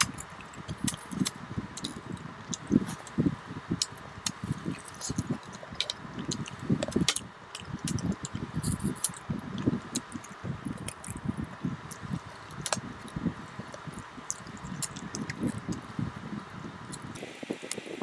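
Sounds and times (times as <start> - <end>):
wet chewing: 0.0 - 3.2, 3.8 - 15.9
mouth clicks: 0.0 - 15.9.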